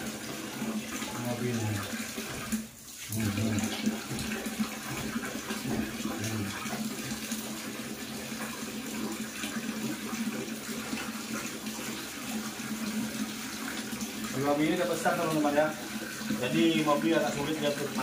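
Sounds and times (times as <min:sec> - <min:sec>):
water pouring from tap: 0:00.0 - 0:18.0
water splashing in basin: 0:00.0 - 0:18.0.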